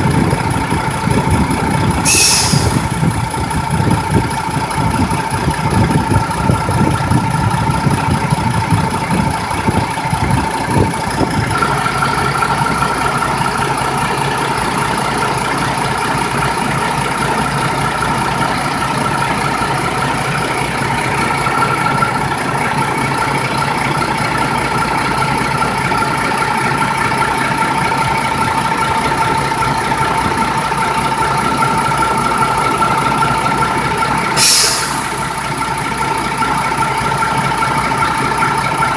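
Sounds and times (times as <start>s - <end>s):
diesel engine running with whine: 0.0s - 38.9s.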